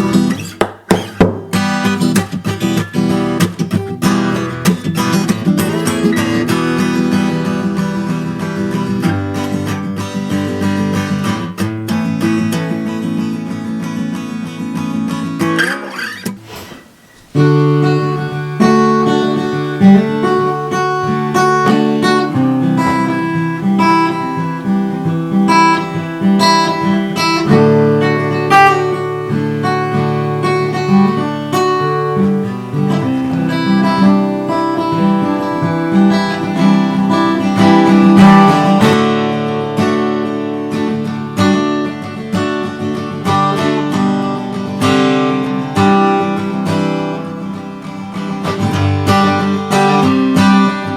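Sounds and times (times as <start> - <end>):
acoustic guitar strumming chords: 0.0 - 50.9.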